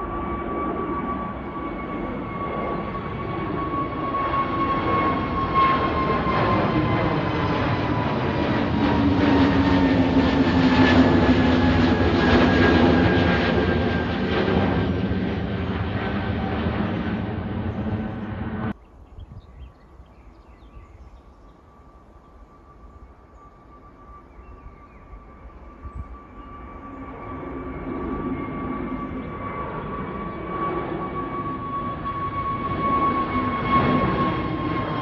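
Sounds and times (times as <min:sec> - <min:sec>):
jet engine whine: 0:00.0 - 0:18.8, 0:20.6 - 0:35.0
airliner engines rumbling: 0:00.0 - 0:35.0.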